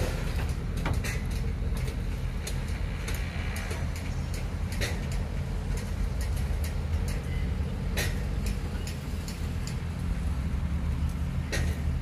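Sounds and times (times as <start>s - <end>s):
heavy machinery engine rumble: 0.0s - 12.0s
metallic clicks and clanks: 0.0s - 12.0s.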